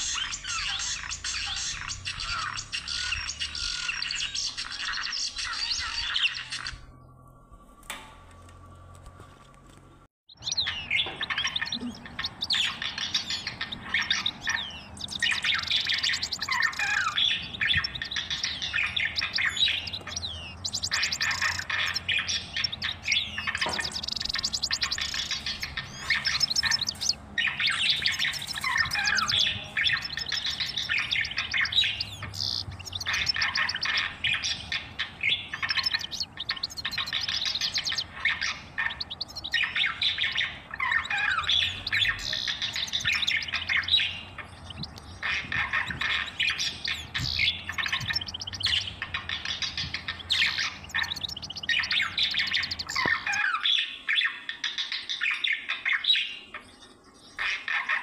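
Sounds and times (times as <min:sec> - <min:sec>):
budgerigars chattering: 0:00.0 - 0:06.8, 0:10.4 - 0:56.7, 0:57.3 - 0:58.0.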